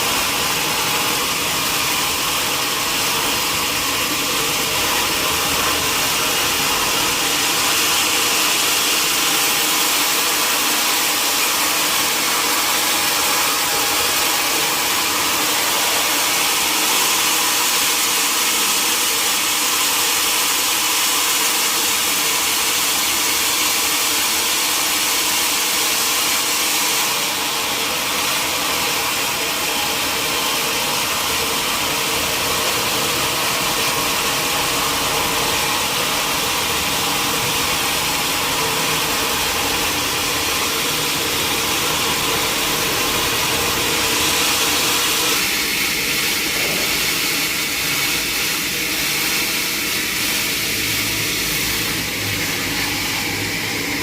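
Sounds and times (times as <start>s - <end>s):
sawmill machinery whirring: 0.0s - 54.0s.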